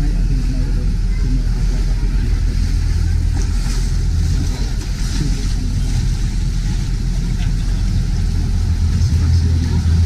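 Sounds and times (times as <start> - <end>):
motorboat engine rumbling: 0.0 - 10.0.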